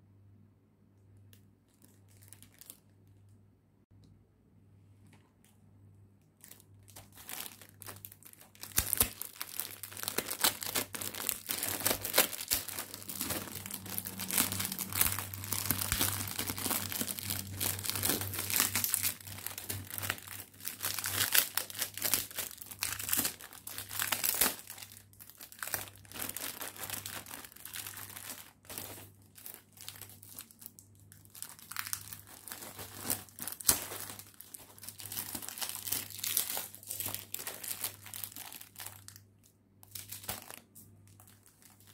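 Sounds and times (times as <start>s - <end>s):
cellophane crinkling and tearing: 1.7s - 3.0s, 6.3s - 41.9s.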